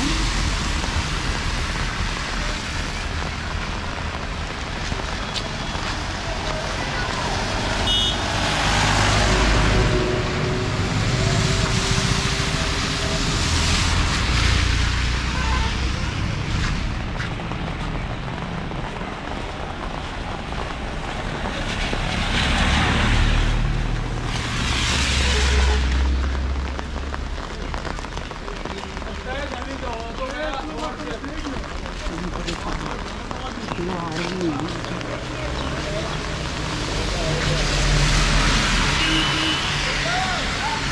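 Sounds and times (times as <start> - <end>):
tyres hissing on wet road: 0.0 - 40.9.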